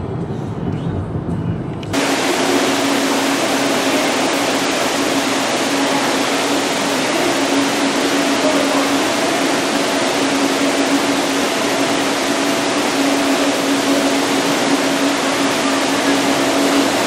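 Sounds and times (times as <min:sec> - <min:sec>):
ventilation rushing: 0:01.9 - 0:17.0
water running: 0:02.0 - 0:17.0.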